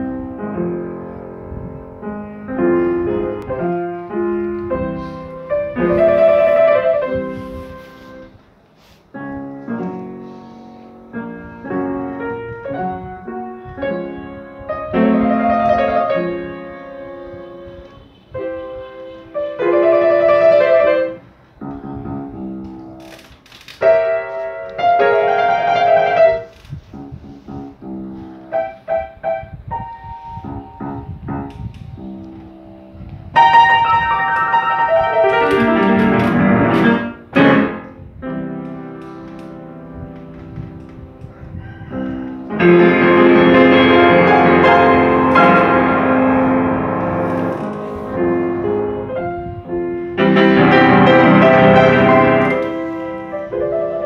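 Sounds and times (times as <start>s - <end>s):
acoustic piano piece: 0.0s - 54.0s.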